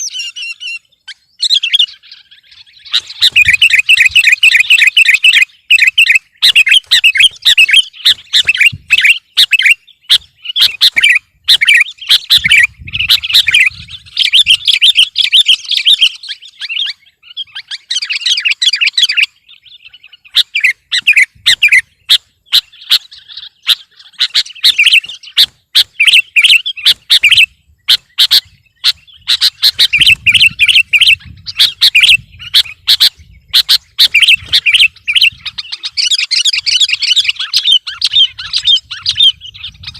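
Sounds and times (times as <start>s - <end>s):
bird singing bright chirps: 0.0s - 39.9s.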